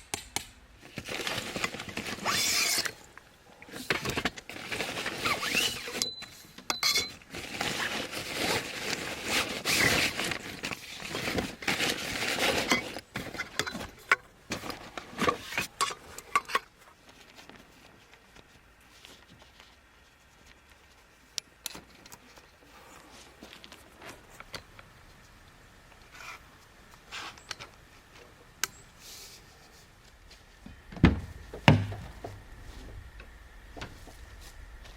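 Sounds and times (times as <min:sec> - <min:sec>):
camping gear rustling: 0:00.7 - 0:34.9.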